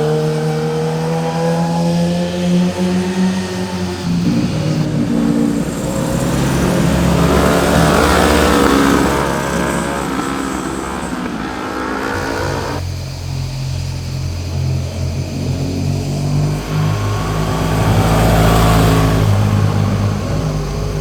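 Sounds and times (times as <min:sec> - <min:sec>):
motorcycle engines running: 0:00.0 - 0:21.0
motorcycle passing by: 0:00.0 - 0:21.0.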